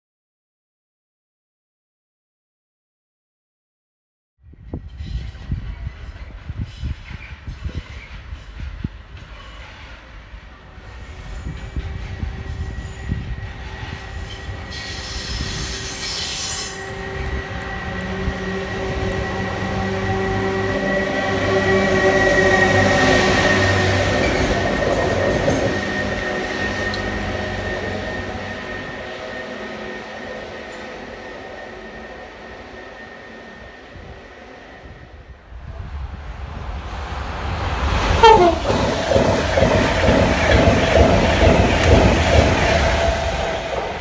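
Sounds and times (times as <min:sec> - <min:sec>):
rail vehicle engine passing: 0:04.5 - 0:44.0.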